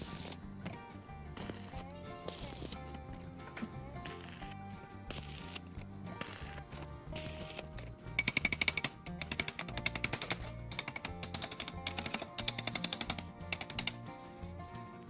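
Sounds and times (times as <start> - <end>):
background music: 0.0 - 15.0
rapid clicking strikes: 0.0 - 15.0.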